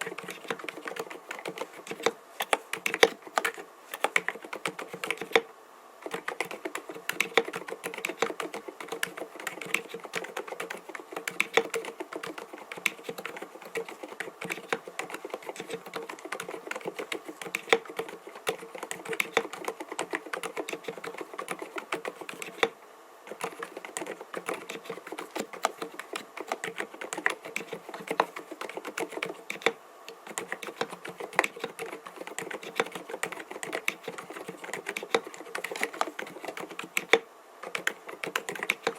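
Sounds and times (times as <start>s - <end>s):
fast typing on keyboard: 0.0s - 22.7s, 23.3s - 38.9s.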